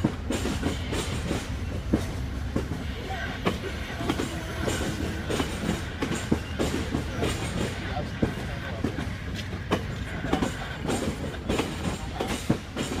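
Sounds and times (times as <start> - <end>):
low train rumble: 0.0 - 13.0
train wheels clicking over rail joints: 0.0 - 13.0.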